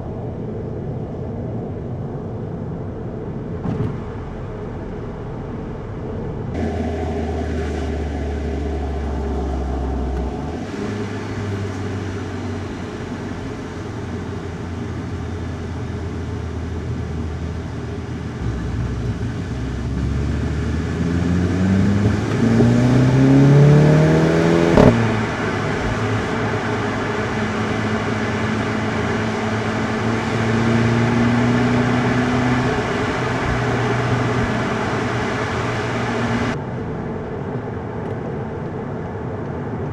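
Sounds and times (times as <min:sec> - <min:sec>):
tyre and road noise: 0:03.0 - 0:36.6
car engine accelerating: 0:03.6 - 0:36.6.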